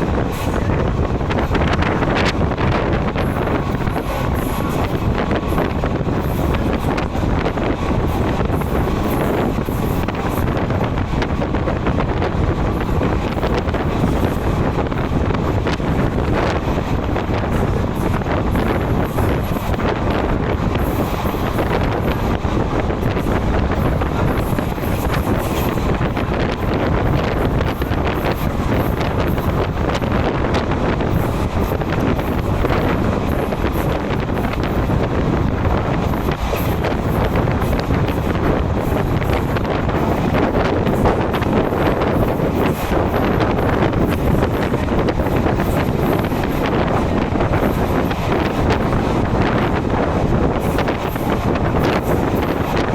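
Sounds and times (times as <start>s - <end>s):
train wheels rumbling on rail: 0.0s - 52.9s
wind rushing over microphone: 0.0s - 52.9s.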